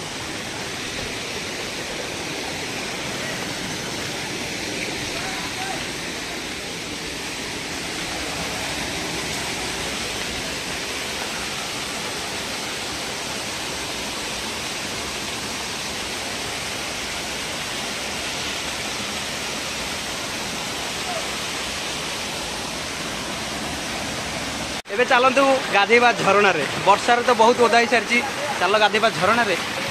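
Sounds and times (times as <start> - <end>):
waterfall over rocks: 0.0 - 29.9.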